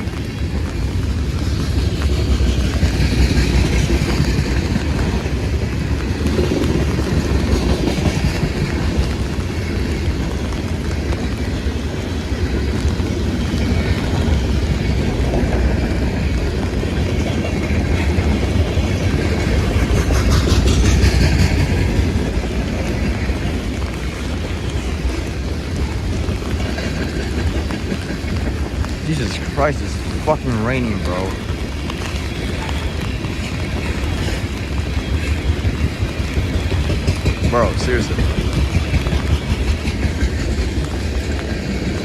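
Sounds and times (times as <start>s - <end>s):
steel wheels clacking on rail joints: 0.0s - 11.5s, 12.1s - 42.0s
freight train rumbling past: 0.0s - 42.0s.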